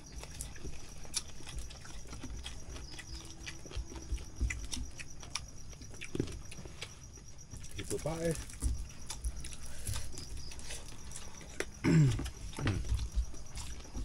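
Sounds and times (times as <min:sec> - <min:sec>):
chewing and smacking: 0:00.0 - 0:14.0
crickets chirping: 0:00.0 - 0:14.0.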